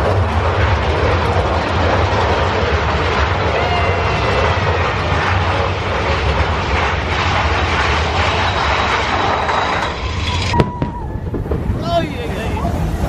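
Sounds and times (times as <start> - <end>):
roller coaster train rumbling: 0.0 - 13.0.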